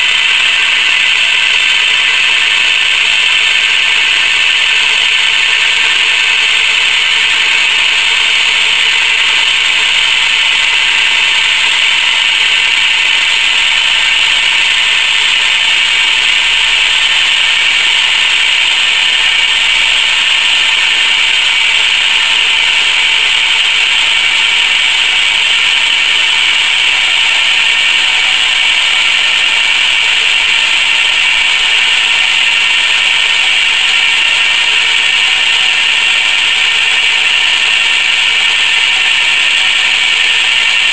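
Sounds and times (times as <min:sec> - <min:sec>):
car jack motor whirring: 0:00.0 - 0:40.9.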